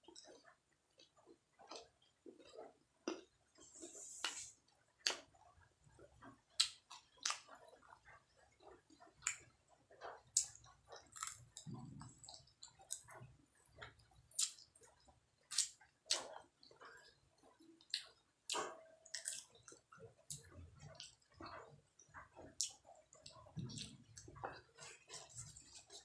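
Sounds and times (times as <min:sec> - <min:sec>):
wet chewing: 0:00.1 - 0:26.0.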